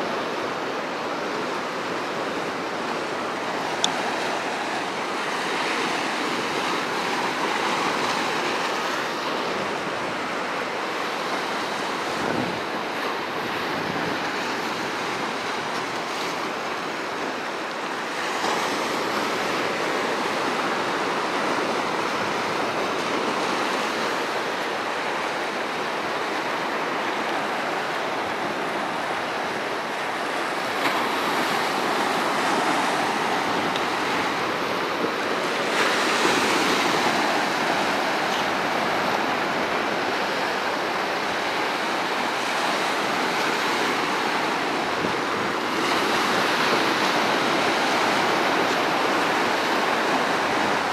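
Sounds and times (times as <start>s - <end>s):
surf breaking on rocky shore: 0.1s - 50.9s.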